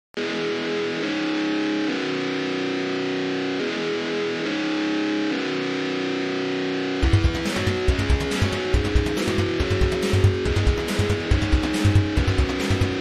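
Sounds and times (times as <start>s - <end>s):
distorted electric guitar chords: 0.2s - 13.0s.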